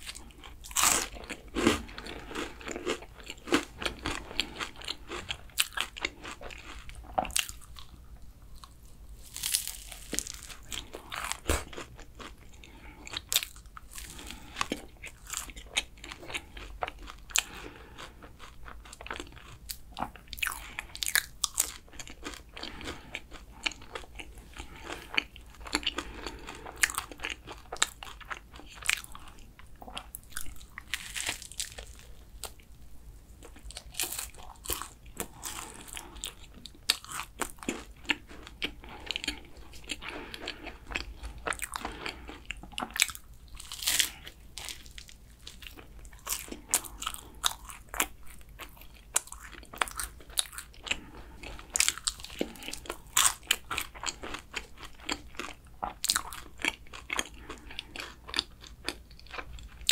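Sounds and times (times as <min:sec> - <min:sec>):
pastry crunching being chewed: 0:00.0 - 0:59.9.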